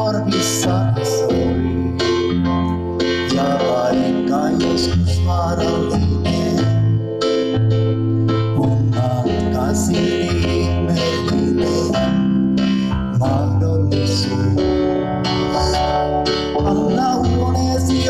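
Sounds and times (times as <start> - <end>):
bass line: 0.0 - 18.0
electric piano chords: 0.0 - 18.0.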